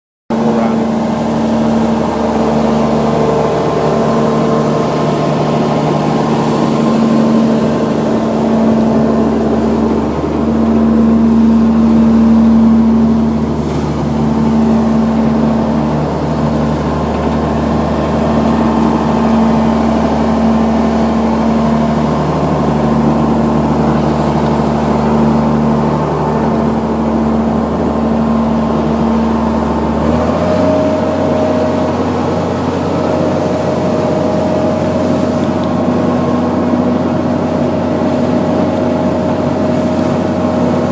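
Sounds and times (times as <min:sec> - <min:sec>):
diesel engine running: 0:00.3 - 0:40.9.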